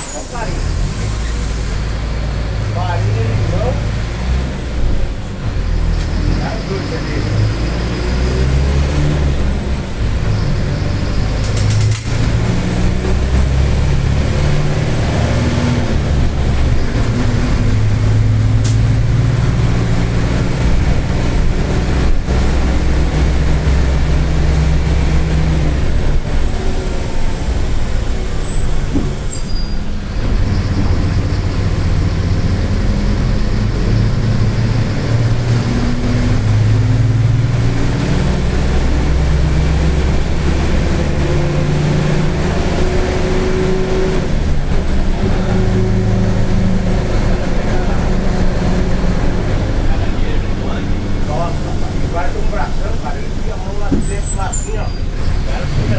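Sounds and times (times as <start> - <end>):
diesel bus engine: 0.0 - 55.9.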